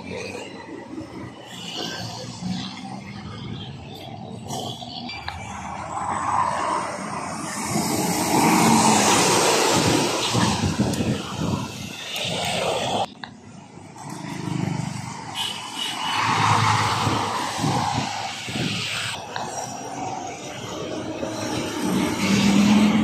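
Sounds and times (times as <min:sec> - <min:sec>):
highway traffic passing: 0:00.0 - 0:23.0.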